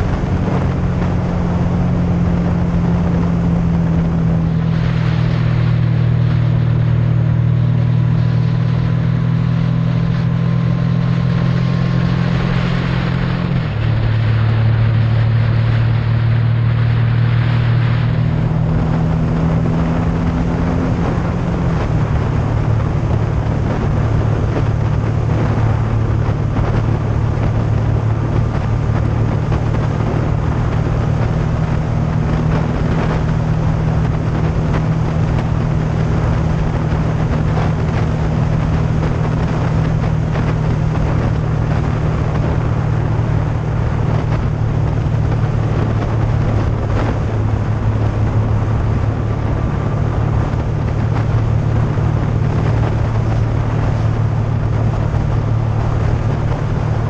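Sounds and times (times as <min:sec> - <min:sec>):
motorcycle engine cruising: 0:00.0 - 0:57.0
wind noise: 0:00.0 - 0:57.0.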